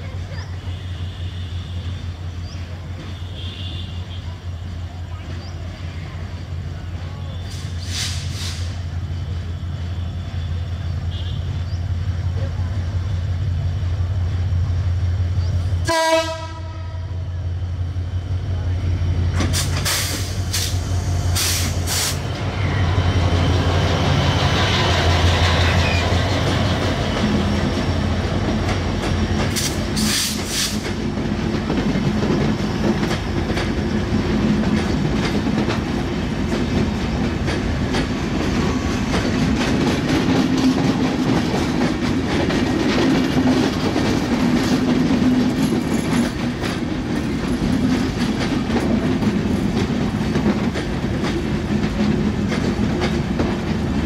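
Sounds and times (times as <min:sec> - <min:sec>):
diesel locomotive engine drone: 0:00.0 - 0:54.0
train wheels clickety-clack: 0:01.2 - 0:10.4, 0:19.2 - 0:54.0.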